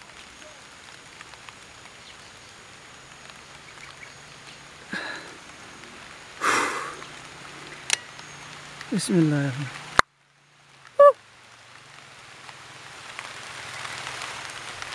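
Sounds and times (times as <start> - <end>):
rain pattering on leaves: 0.0 - 14.9.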